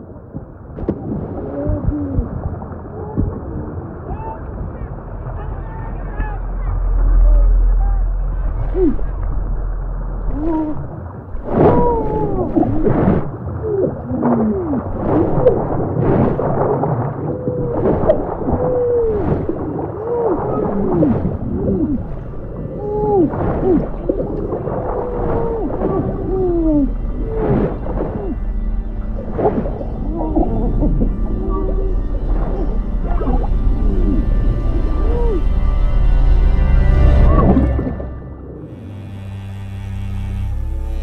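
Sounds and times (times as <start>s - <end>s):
long wailing underwater calls: 5.9s - 15.7s, 17.0s - 41.0s.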